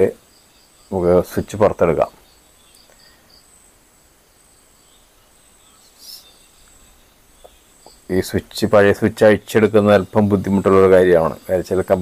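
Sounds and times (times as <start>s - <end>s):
insects chirping faintly: 0.0s - 12.0s
soft hiss: 0.0s - 12.0s.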